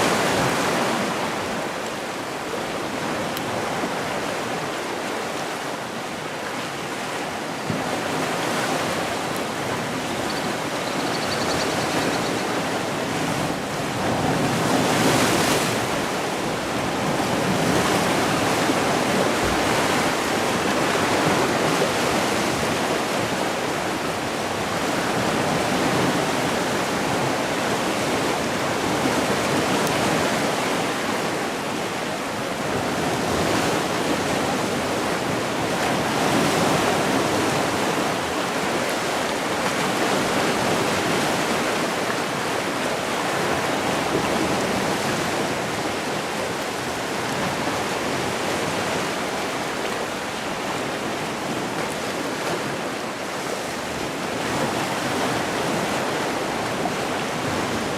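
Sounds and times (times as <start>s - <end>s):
waves breaking on shore: 0.0s - 57.9s.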